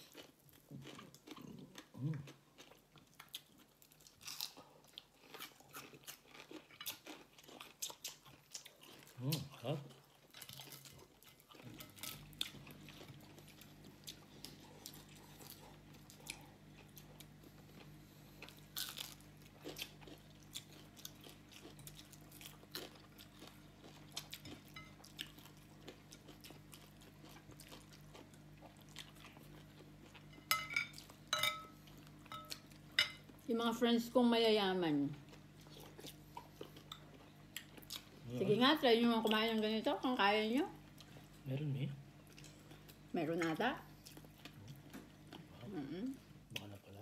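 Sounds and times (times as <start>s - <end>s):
chewing and crunching: 0.0s - 33.5s, 35.1s - 38.6s, 40.7s - 41.5s, 42.2s - 47.0s
steady low hum: 9.0s - 47.0s.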